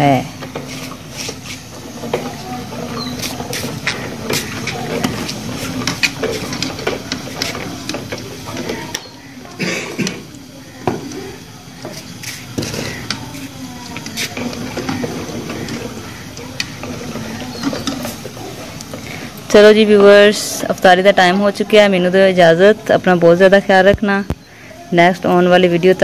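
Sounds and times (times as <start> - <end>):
indistinct background voices: 0.0 - 26.0
steady low hum: 0.0 - 26.0.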